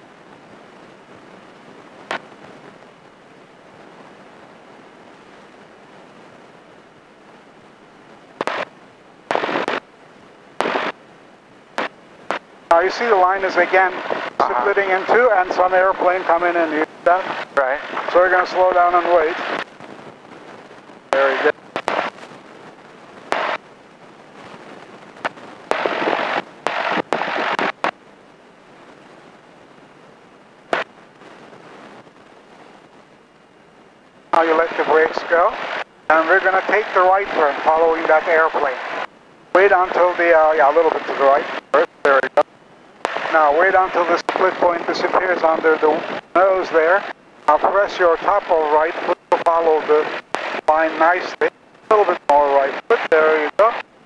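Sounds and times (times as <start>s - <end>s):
low steady background: 0.0s - 54.0s
headset intercom hiss: 8.1s - 54.0s
loud bursts of noise: 8.2s - 29.0s, 30.4s - 33.0s, 33.6s - 54.0s.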